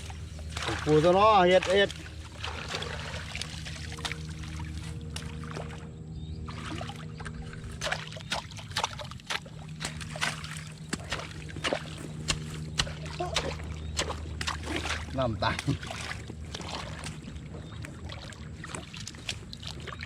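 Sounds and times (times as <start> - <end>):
low mechanical hum: 0.0 - 20.0
water sloshing and splashing: 0.0 - 20.0.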